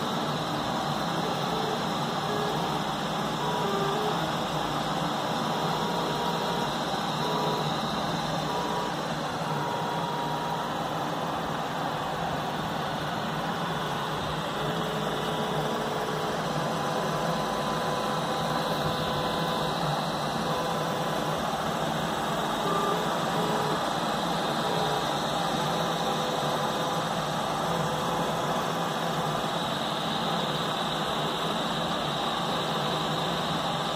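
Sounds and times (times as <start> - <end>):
printer whirring: 0.0 - 33.9
stepper motors whining: 0.0 - 33.9.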